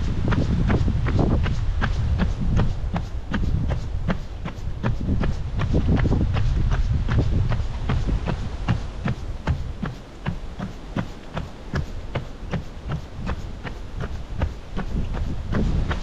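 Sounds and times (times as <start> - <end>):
running footsteps on wooden boards: 0.0 - 16.0.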